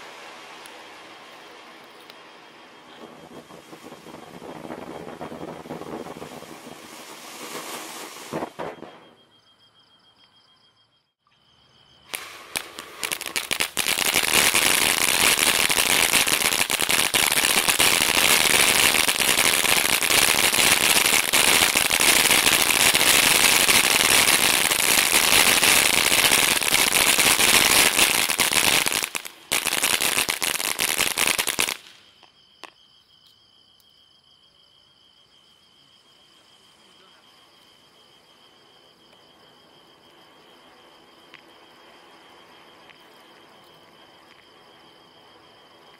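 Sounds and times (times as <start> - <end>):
firework fountains crackling hiss: 0.0 - 9.1, 12.0 - 32.8, 35.8 - 45.9.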